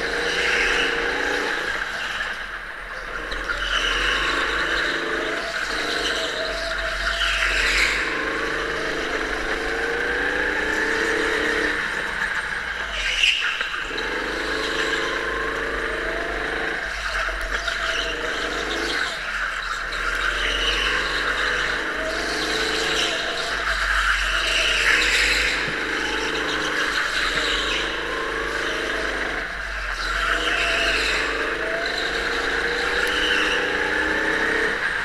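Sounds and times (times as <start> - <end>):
go-kart motor revving: 0.0 - 35.0.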